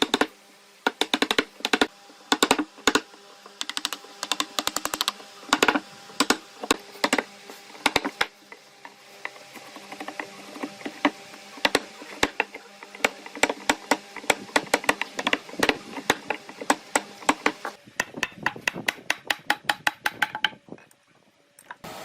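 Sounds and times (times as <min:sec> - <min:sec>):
tool knocking on wood: 0:00.9 - 0:08.3, 0:09.2 - 0:20.6.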